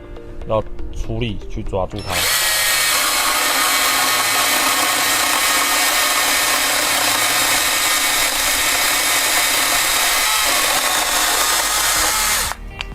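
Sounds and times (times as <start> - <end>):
pruning saw cutting wood: 2.0 - 12.6.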